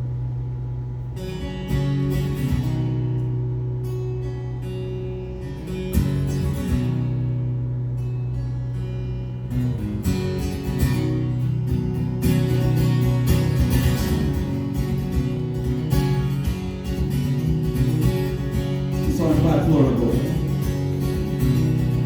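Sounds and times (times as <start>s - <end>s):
guitar strumming: 0.0s - 22.0s.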